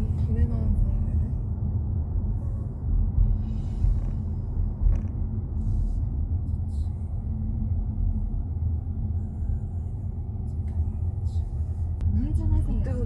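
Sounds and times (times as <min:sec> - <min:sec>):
road and engine rumble in car cabin: 0:00.0 - 0:13.0.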